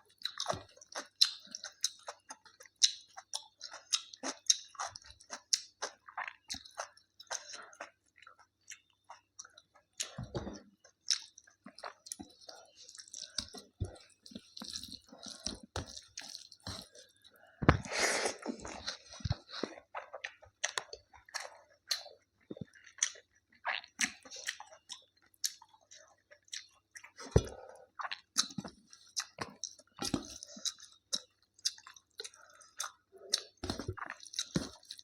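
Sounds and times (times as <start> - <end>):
wet chewing mouth clicks: 0.1 - 17.2, 18.3 - 35.0.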